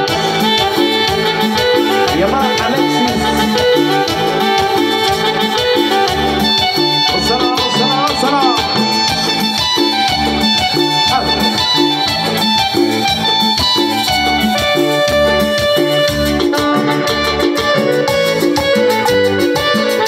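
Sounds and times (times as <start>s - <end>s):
electronic keyboard melody: 0.0s - 20.0s
latin dance band over speakers: 0.0s - 20.0s
steady bass beat: 0.0s - 20.0s.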